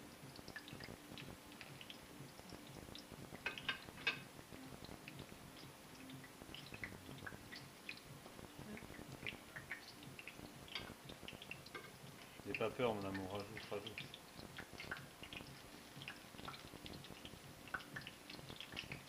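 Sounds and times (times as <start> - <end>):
oil crackling in a frying pan: 0.0 - 19.0.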